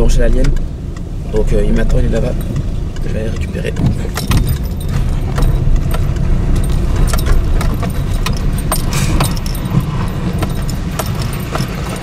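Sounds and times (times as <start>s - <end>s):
car engine and road rumble: 0.0s - 12.0s
sharp clicks and rattles: 0.0s - 12.0s.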